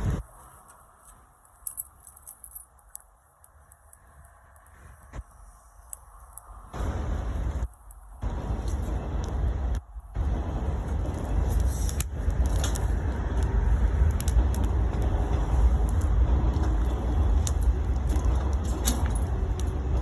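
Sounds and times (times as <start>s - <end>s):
bonfire crackling: 0.0s - 1.6s, 2.5s - 20.0s
steady low rumble: 0.0s - 20.0s.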